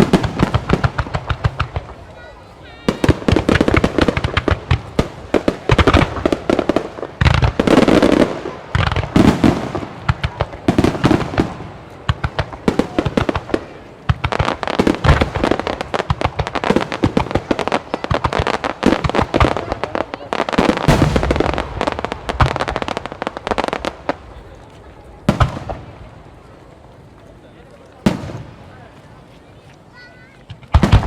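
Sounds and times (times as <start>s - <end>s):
deep firework booms: 0.0s - 26.4s, 28.0s - 29.0s, 30.4s - 31.0s
firework crackling: 0.0s - 31.0s.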